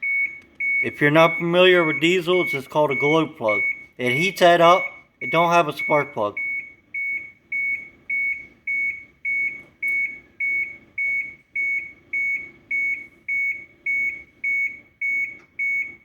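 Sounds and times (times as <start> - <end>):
dashboard warning beeper: 0.0 - 16.0.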